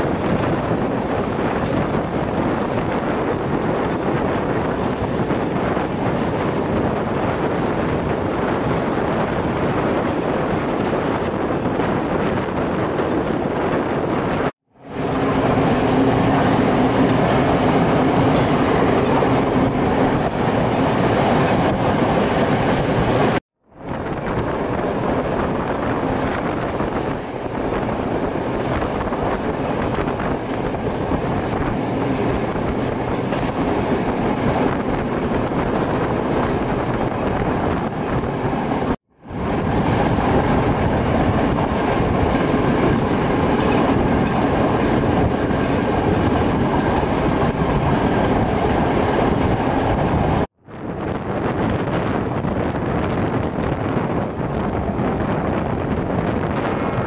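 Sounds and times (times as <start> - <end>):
train wheels rumbling and rattling: 0.0 - 57.0.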